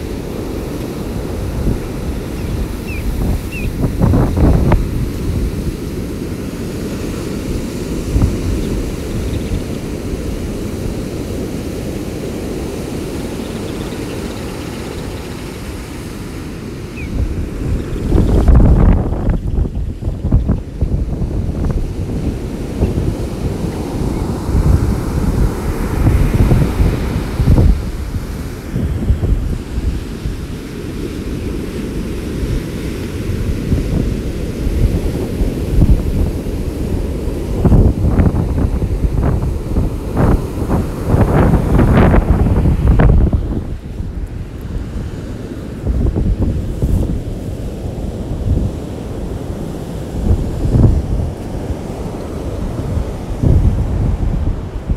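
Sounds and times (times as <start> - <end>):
surf breaking on beach: 0.0 - 19.4, 20.3 - 54.9
storm wind buffeting microphone: 0.0 - 54.9.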